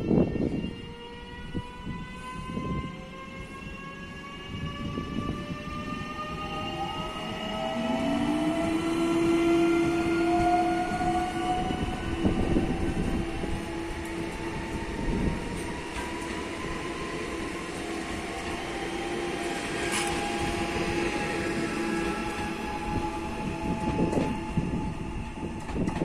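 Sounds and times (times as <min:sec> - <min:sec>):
electric train inverters whining: 0:00.0 - 0:26.0.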